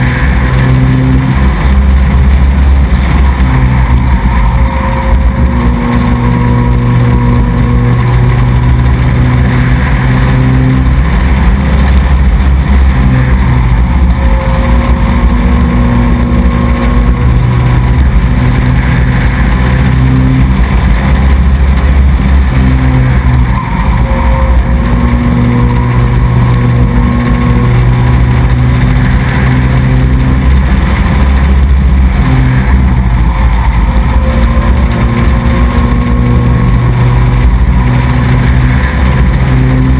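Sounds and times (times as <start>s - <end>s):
race truck engine running hard: 0.0s - 39.9s.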